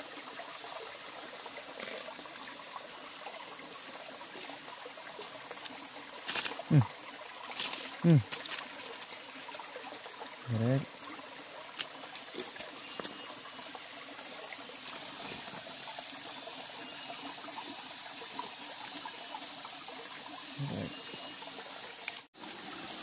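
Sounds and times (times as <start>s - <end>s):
river water running: 0.0s - 23.0s.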